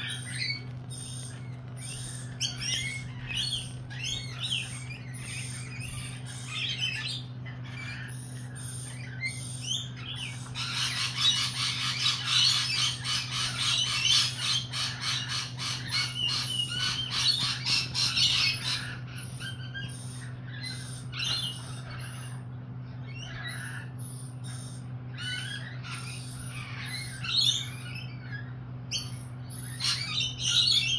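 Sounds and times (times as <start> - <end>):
lorikeets calling and screeching: 0.0 - 30.9.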